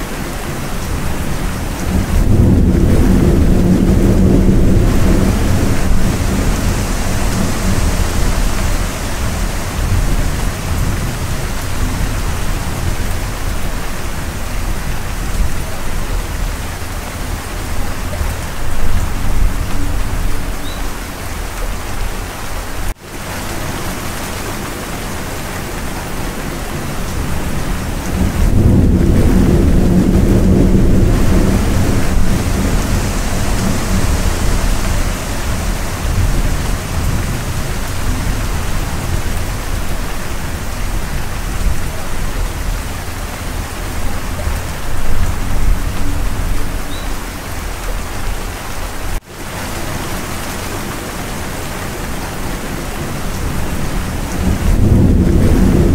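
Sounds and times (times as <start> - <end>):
thunder rumbling: 0.0 - 20.7, 23.0 - 55.9
heavy rain: 0.0 - 55.9.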